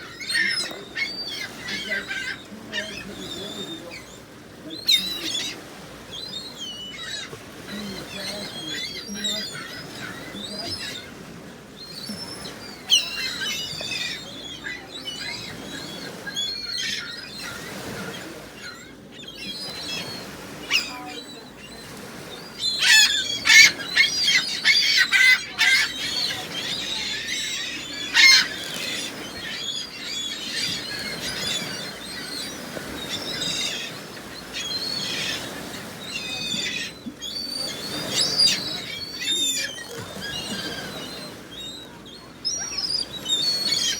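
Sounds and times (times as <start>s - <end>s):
gulls calling: 0.0s - 43.9s.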